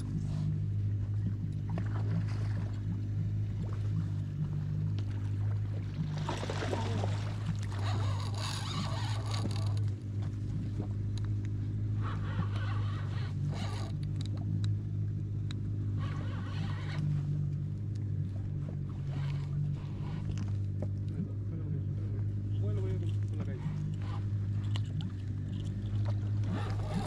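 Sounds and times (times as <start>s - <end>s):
outboard motor humming: 0.0s - 27.0s
water washing against hull: 0.0s - 27.0s.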